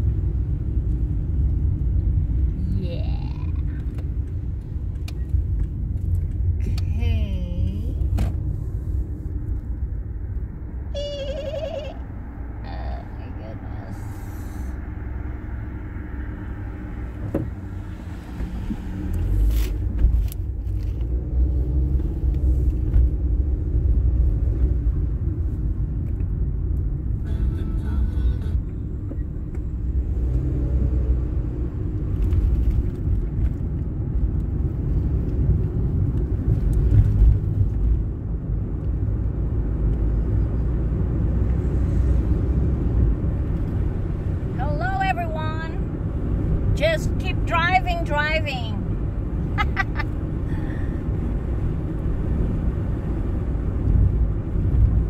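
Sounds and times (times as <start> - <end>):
car engine rumble: 0.0 - 55.0
road noise: 0.0 - 55.0.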